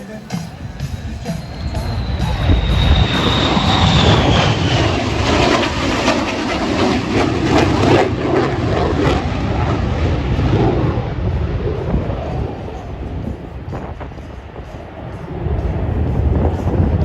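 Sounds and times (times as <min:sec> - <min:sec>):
jet engine roaring with high whine: 0:00.0 - 0:17.0.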